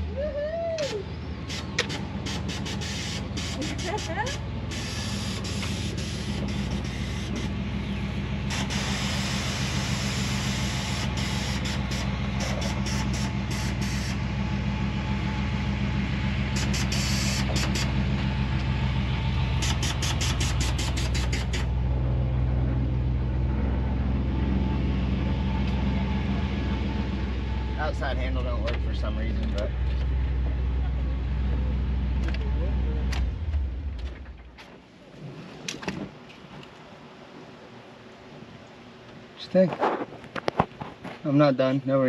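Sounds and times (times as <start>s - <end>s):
pickup engine idling: 0.0s - 34.6s.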